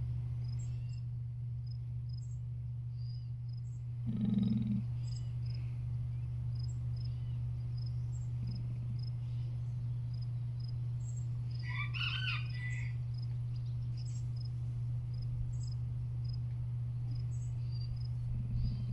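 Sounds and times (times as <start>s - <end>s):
steady low hum: 0.0s - 18.9s
insects chirping: 0.3s - 18.9s.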